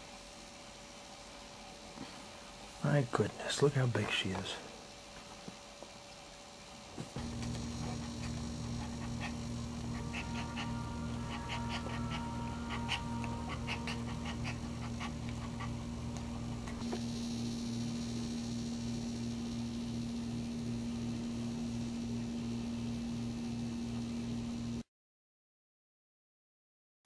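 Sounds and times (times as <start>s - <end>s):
steady electrical hum: 0.0s - 24.8s.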